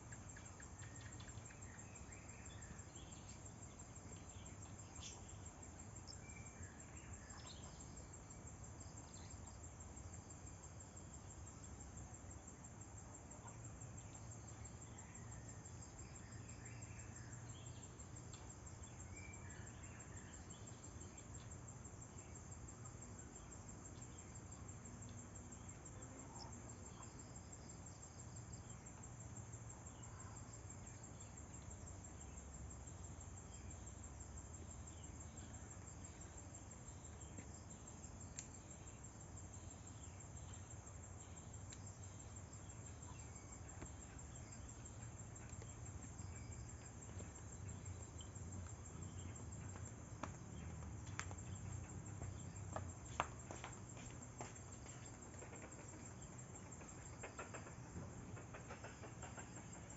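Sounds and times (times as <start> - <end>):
faint insect chirps: 0.0 - 59.9
insect trill: 0.0 - 59.9.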